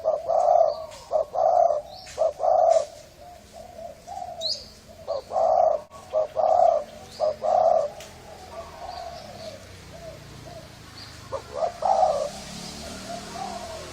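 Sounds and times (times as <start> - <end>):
dove cooing: 0.0 - 13.9.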